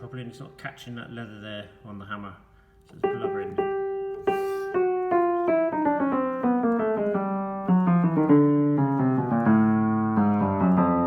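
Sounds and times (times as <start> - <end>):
upright piano playing: 0.0 - 11.0.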